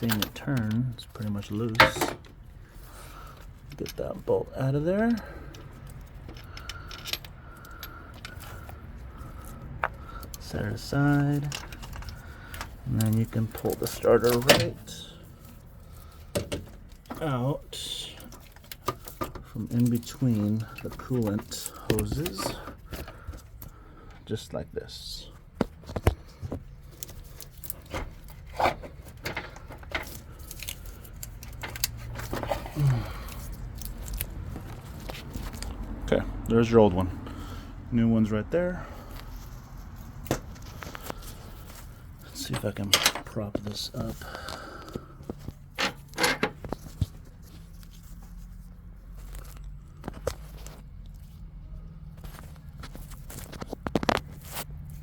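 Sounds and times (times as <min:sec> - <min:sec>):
starter motor clunking and scraping: 0:00.0 - 0:24.4, 0:25.5 - 0:37.6, 0:38.7 - 0:55.0.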